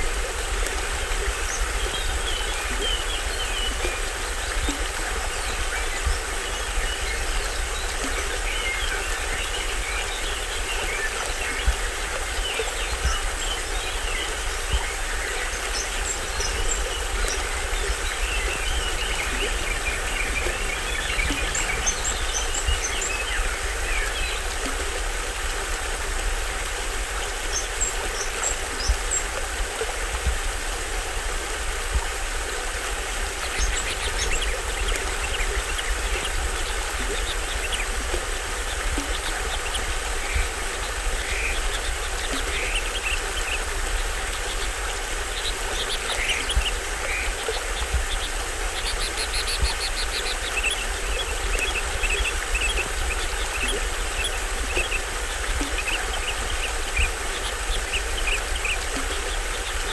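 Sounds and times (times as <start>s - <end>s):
forest birds chirping: 0.0s - 25.2s, 33.1s - 59.9s
small waterfall rushing: 0.0s - 59.9s.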